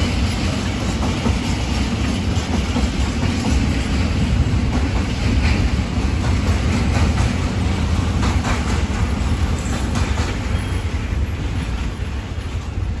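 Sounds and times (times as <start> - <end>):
wheels clacking over rail joints: 0.0 - 12.8
freight train rumbling past: 0.0 - 13.0.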